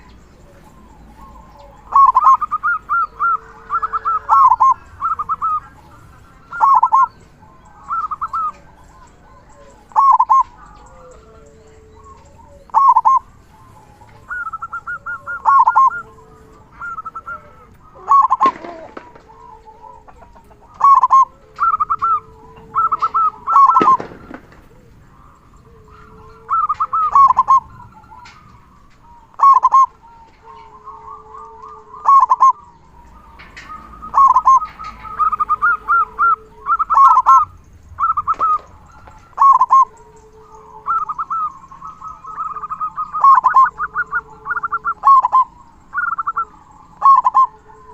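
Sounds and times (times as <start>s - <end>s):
dove cooing with rattling notes: 0.0s - 47.9s.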